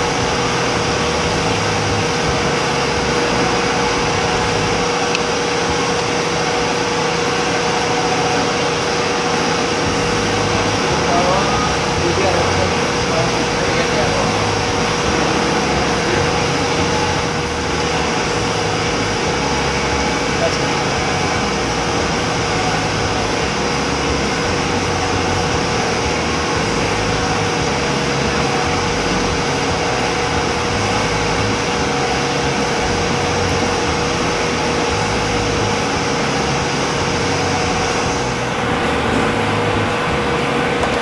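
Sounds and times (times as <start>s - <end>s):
machine humming: 0.0s - 41.0s.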